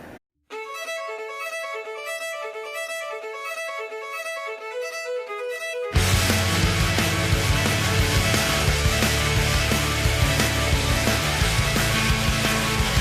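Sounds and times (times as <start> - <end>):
violin melody: 0.5 - 13.0
loud full music: 0.6 - 13.0.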